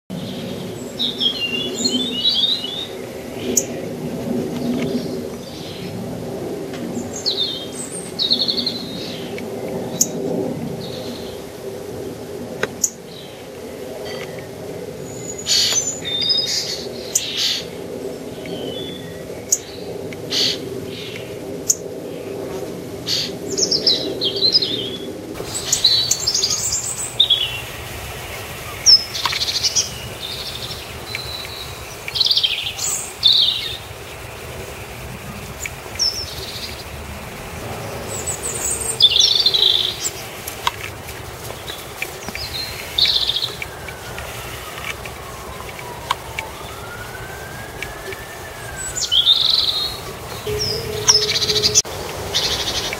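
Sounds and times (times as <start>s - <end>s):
birds chirping: 0.1s - 11.5s, 12.7s - 52.9s.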